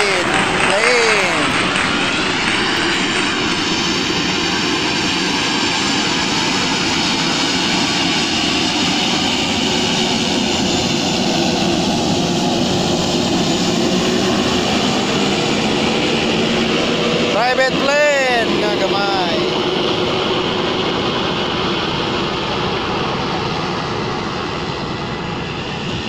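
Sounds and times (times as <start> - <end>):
high engine whine: 0.0 - 26.0
turboprop engines rushing: 0.0 - 26.0.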